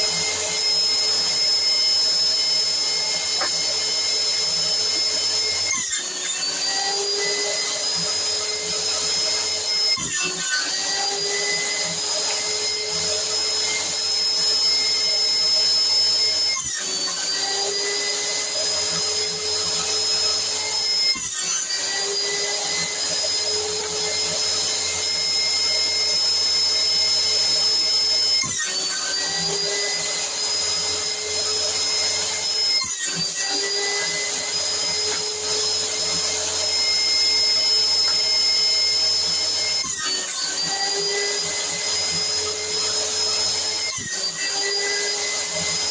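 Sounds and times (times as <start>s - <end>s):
electric motor whining: 0.0s - 45.9s.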